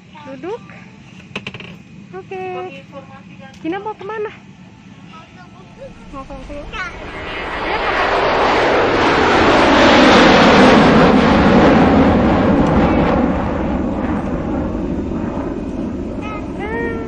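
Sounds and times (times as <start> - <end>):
airliner engines powering up: 3.2 - 17.0.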